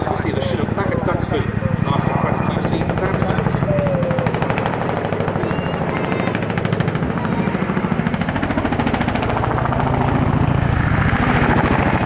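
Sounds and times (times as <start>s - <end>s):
helicopter rotor blade slap: 0.0s - 12.0s
low engine drone: 0.0s - 12.0s.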